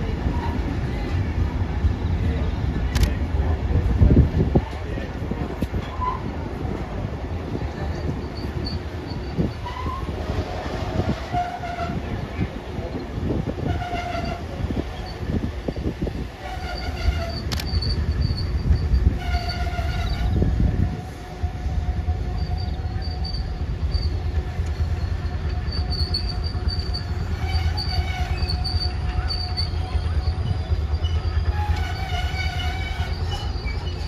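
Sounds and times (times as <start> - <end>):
train carriage rumbling on rails: 0.0 - 34.0.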